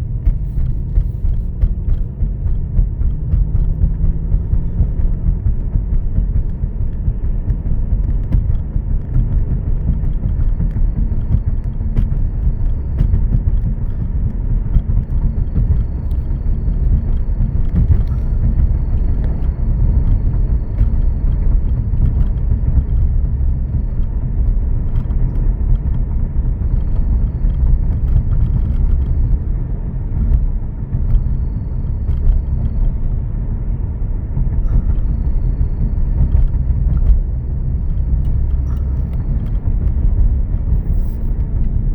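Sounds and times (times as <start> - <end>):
car engine low rumble: 0.0 - 41.9.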